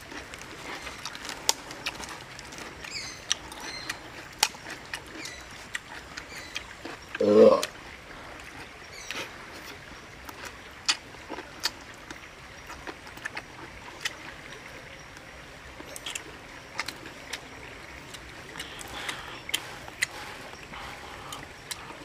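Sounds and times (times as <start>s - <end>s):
person chewing food: 0.0s - 14.6s, 15.8s - 22.0s
steady low hiss: 0.0s - 22.0s.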